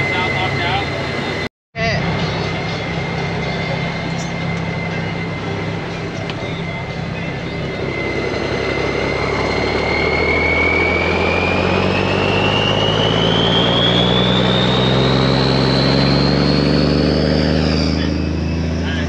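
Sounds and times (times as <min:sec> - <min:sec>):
diesel engine drone: 0:00.0 - 0:19.0
whine rising in pitch: 0:00.0 - 0:19.0.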